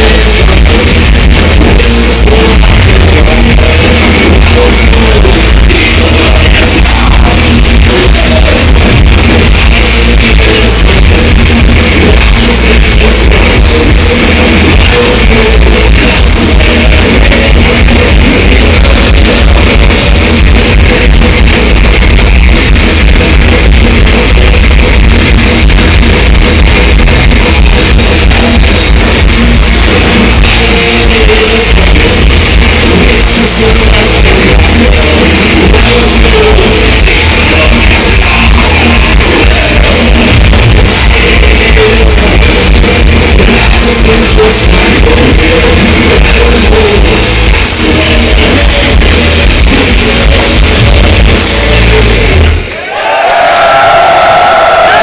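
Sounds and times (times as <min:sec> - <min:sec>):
bass guitar: 0:00.0 - 0:52.9
distorted electric guitars: 0:00.0 - 0:55.0
drums: 0:00.0 - 0:55.0.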